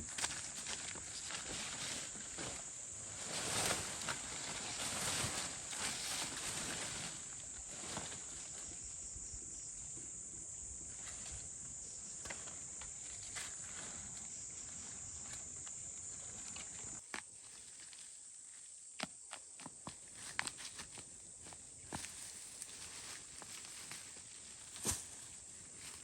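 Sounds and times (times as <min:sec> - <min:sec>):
steady high-pitched hiss: 0:00.0 - 0:26.0.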